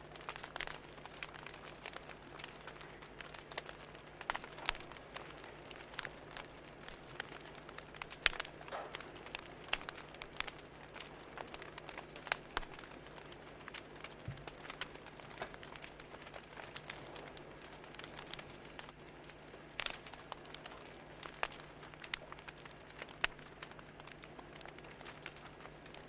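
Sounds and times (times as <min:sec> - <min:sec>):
soft steady hiss: 0:00.0 - 0:26.0
wood fire crackling: 0:00.0 - 0:26.0.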